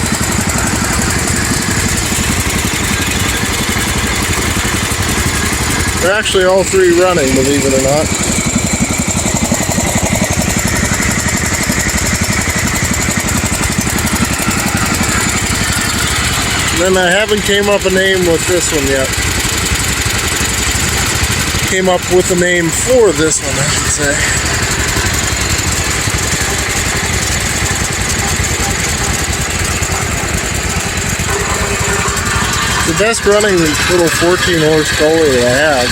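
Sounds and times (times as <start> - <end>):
small engines idling: 0.0 - 35.9.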